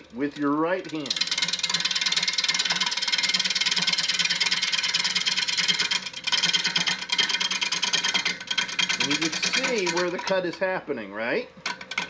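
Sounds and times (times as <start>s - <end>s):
gouge clattering on spinning wood: 0.0s - 10.8s, 11.5s - 12.0s
lathe hum: 0.0s - 12.0s.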